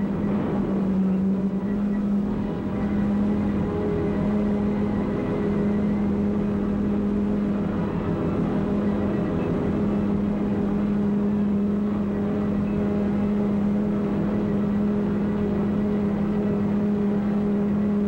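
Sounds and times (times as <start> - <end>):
noisy rumble: 0.0 - 18.0
steady low hum: 0.0 - 18.0.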